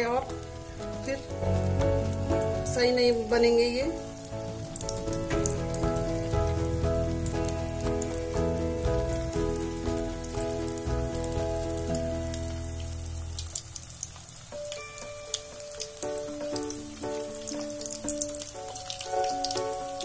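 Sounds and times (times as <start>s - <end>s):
background music: 0.0s - 20.0s
food frying in oil: 0.0s - 20.0s.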